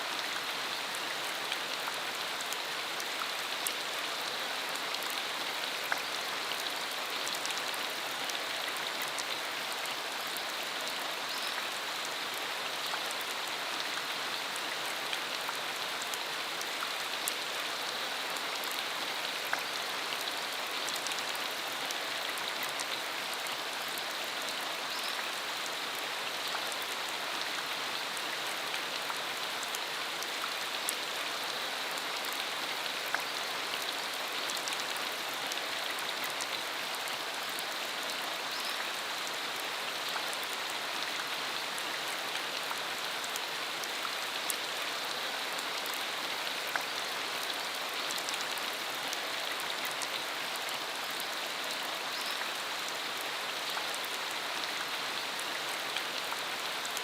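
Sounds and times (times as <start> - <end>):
rain falling on road: 0.0 - 57.0.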